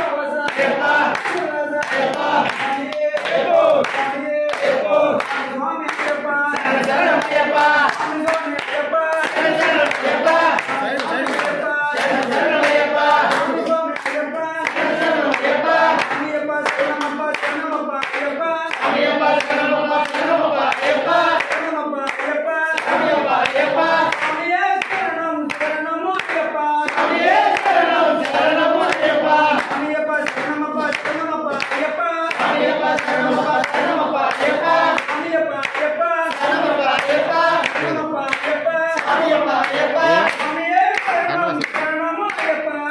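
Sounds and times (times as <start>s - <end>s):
group of men singing: 0.0s - 42.9s
hand clapping: 0.0s - 42.9s.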